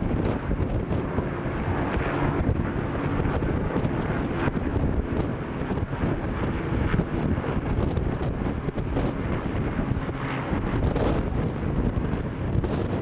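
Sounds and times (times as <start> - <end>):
distant powerboat engines: 0.0 - 13.0
wind buffeting microphone: 0.0 - 13.0.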